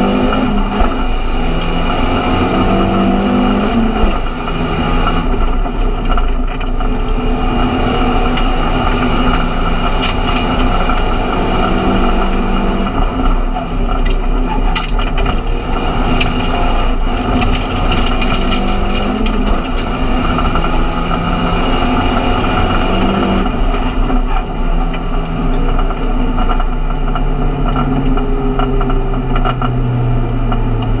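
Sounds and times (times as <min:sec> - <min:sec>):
race car engine revving: 0:00.0 - 0:31.0
road and cabin noise: 0:00.0 - 0:31.0
sharp clicks and rattles: 0:00.0 - 0:31.0.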